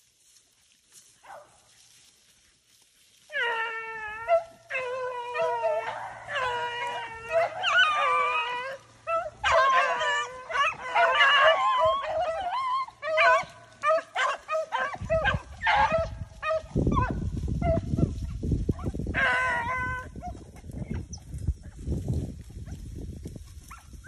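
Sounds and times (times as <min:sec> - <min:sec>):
hounds baying and howling: 0:03.2 - 0:24.0.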